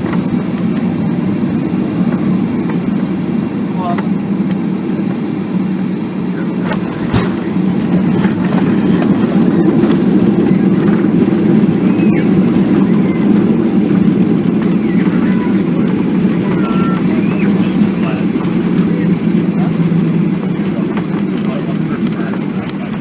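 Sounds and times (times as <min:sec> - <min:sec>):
airliner cabin engine rush: 0:00.0 - 0:23.0.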